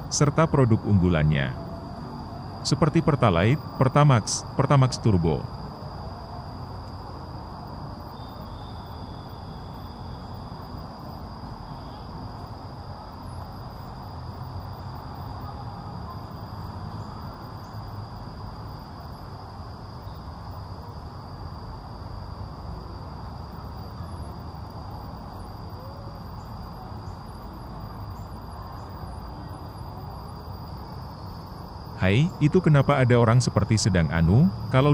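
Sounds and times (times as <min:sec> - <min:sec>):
high-pitched insect drone: 0:00.0 - 0:34.9.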